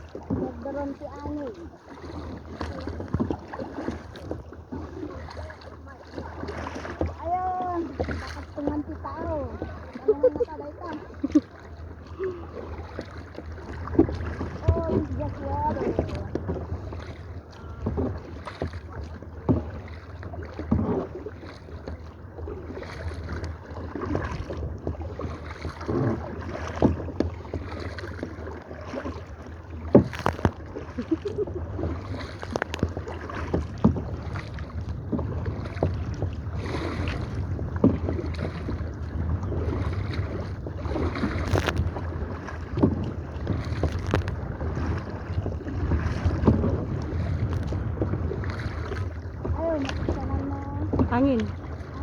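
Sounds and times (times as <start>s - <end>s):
kayak paddles splashing in water: 0.0s - 52.0s
wind rumble on microphone: 2.0s - 52.0s.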